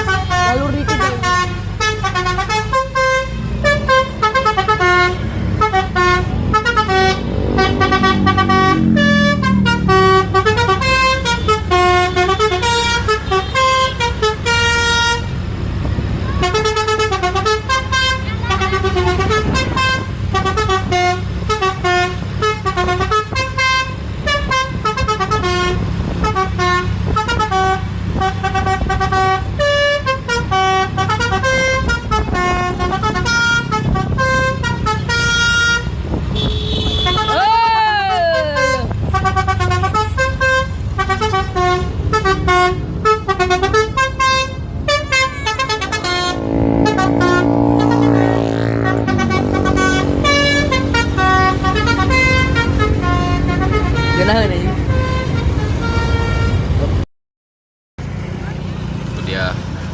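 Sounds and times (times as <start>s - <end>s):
bus engine running: 0.0s - 57.0s
multi-tone bus horn melody: 0.0s - 57.0s.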